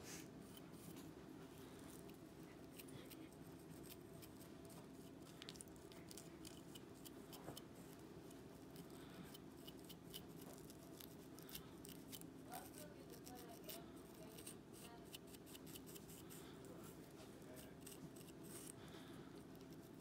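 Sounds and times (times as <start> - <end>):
comb scratching scalp: 0.0 - 20.0
low steady hum: 0.0 - 20.0.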